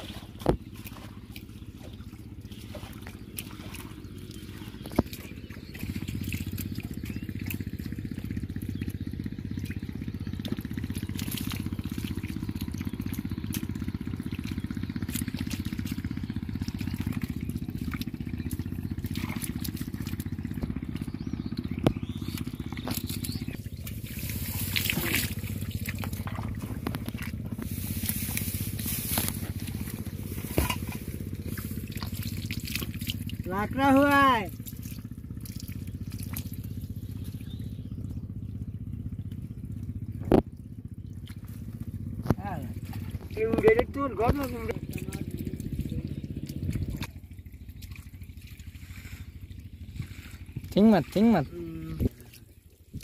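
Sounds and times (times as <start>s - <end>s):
water pump engine running: 0.0s - 53.0s
wet splashes in mud: 0.0s - 53.0s.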